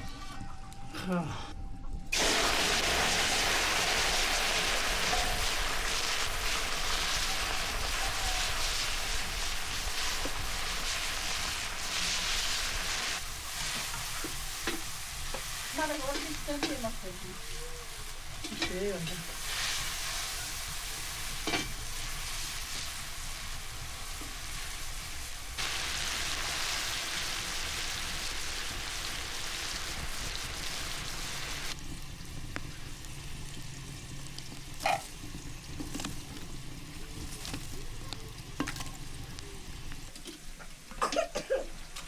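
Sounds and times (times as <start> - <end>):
food sizzling in hot oil: 2.1 - 41.0.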